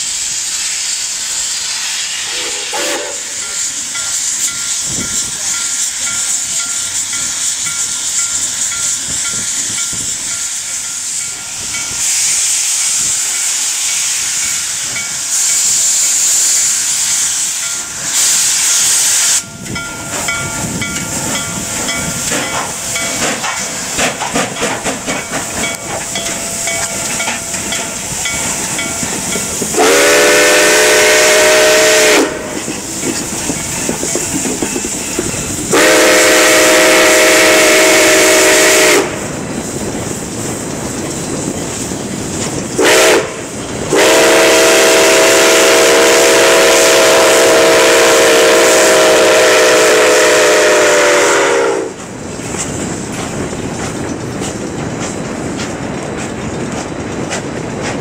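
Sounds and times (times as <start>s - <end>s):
gusts of steam: 0.0s - 58.0s
steam locomotive hissing steam: 0.0s - 58.0s.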